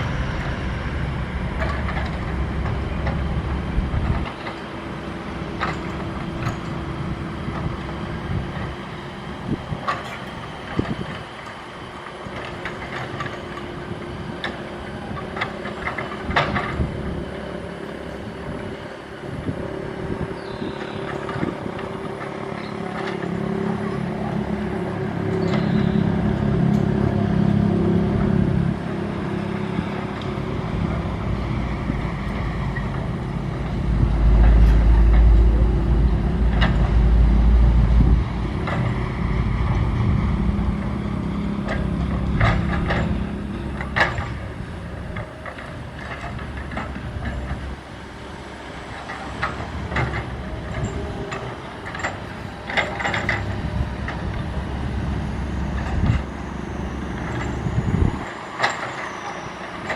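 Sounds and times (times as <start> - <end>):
excavator diesel engine working: 0.0 - 59.9.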